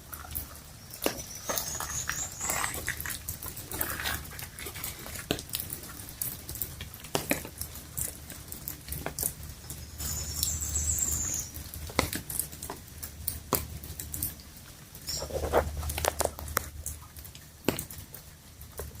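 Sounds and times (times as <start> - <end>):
rain dripping and pattering: 0.0 - 19.0.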